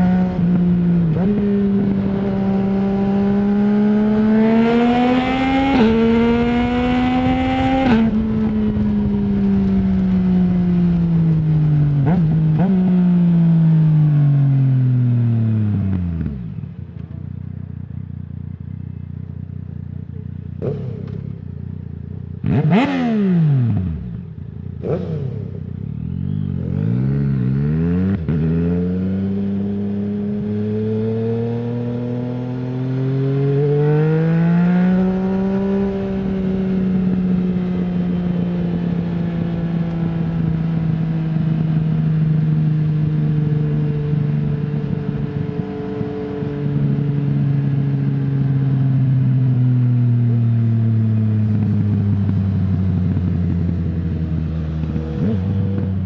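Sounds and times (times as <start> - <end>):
motorcycle engine under way: 0.0 - 56.0.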